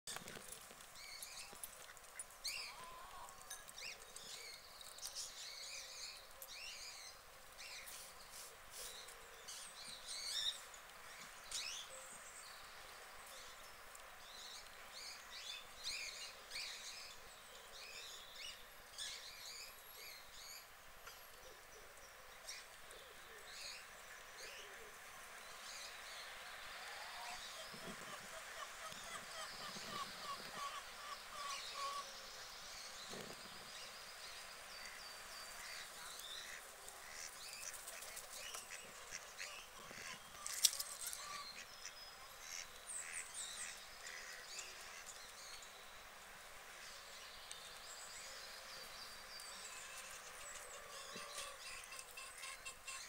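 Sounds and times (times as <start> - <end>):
faint songbirds chirping: 0.1 - 53.0.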